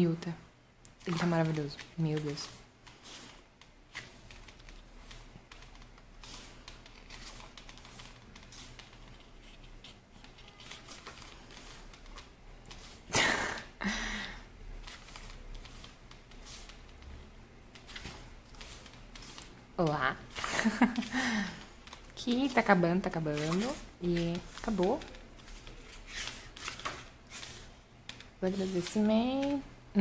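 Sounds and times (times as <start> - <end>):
book pages turning: 0.9 - 13.1, 14.8 - 29.6.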